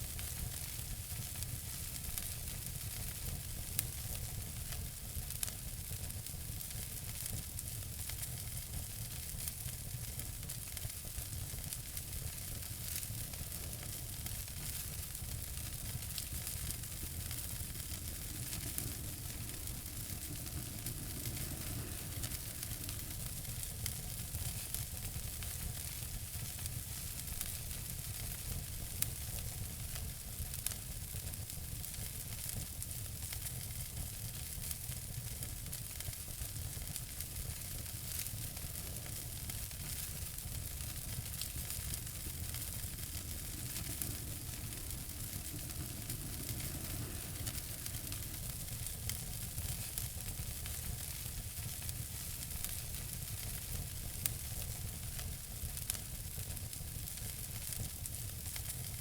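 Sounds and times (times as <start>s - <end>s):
fireplace fire crackling and hissing: 0.0s - 59.0s
fire popping: 0.1s - 59.0s.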